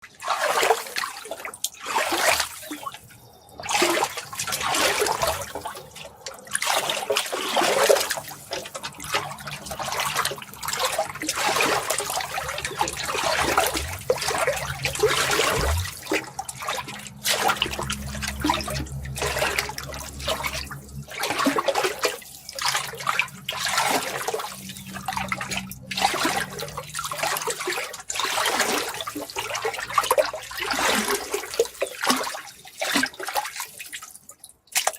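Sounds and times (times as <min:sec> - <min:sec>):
water running and splashing: 0:00.0 - 0:34.9.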